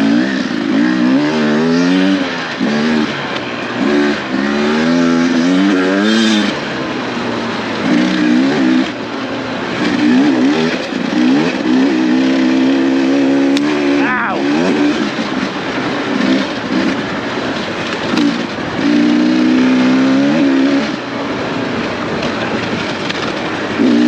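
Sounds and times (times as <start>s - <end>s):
dirt bike engine revving: 0.0s - 21.6s, 22.7s - 24.0s
steady rushing noise: 0.2s - 24.0s.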